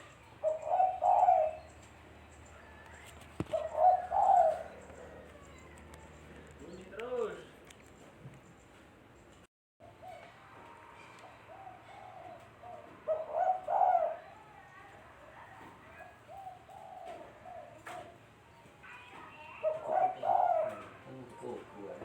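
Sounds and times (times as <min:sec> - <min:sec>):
dove cooing: 0:00.0 - 0:06.9, 0:09.8 - 0:18.3, 0:19.0 - 0:22.0.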